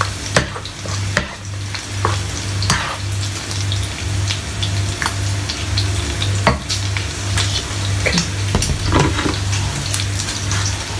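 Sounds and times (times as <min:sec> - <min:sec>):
bacon sizzling in a frying pan: 0:00.0 - 0:08.7, 0:09.7 - 0:10.9.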